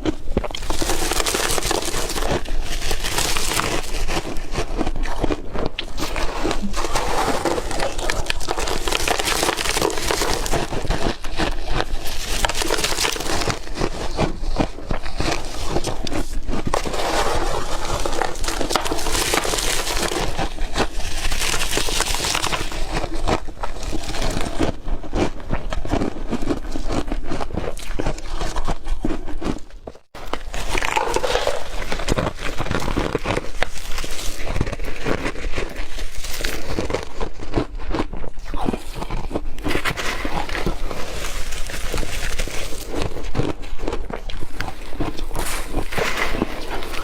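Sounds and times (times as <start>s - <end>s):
crushed ice being chewed: 0.0s - 47.0s.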